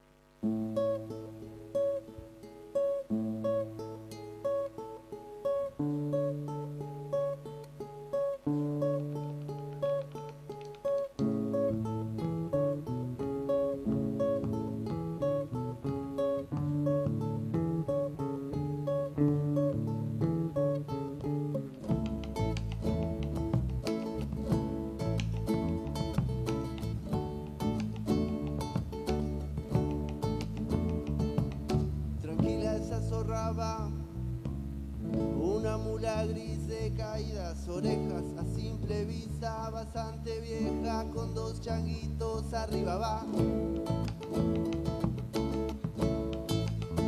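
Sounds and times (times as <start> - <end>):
acoustic guitar fingerpicking: 0.0 - 47.0.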